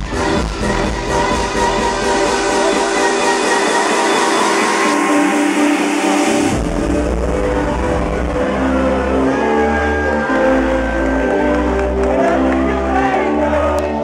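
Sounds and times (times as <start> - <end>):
loud electronic dance music: 0.0 - 14.0.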